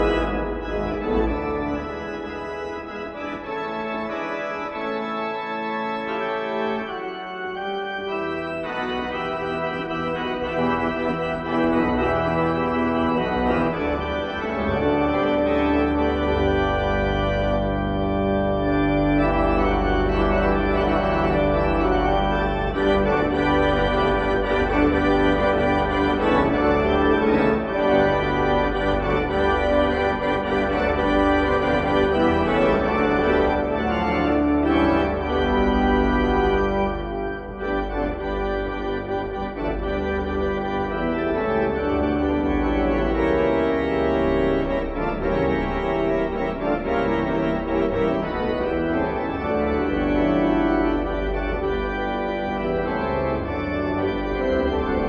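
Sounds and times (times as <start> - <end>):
organ music with sustained chords: 0.0 - 55.0.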